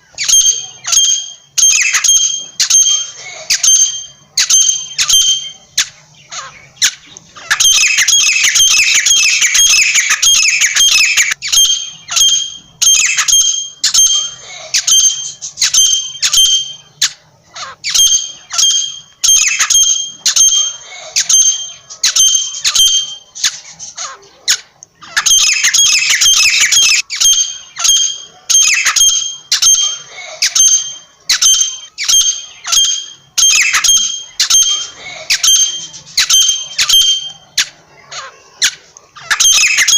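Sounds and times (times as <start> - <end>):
francolin calling shrilly: 0.0 - 5.7, 7.4 - 17.0, 17.6 - 23.3, 25.1 - 37.6, 39.2 - 39.9.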